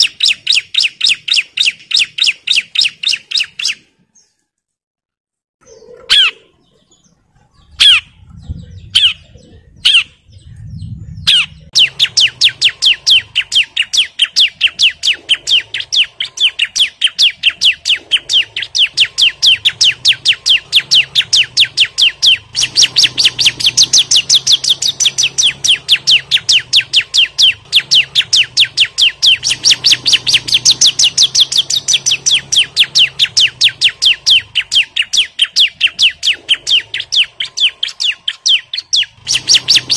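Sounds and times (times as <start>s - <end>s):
bird sharp chirps: 0.0s - 4.4s, 5.6s - 39.9s.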